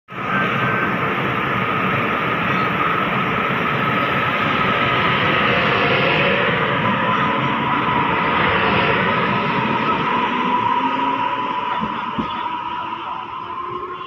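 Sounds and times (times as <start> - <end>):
electric train rumbling past: 0.1 - 14.0.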